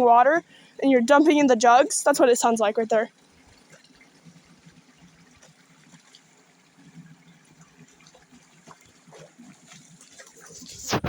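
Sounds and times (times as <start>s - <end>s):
stream water trickling: 0.0s - 11.0s.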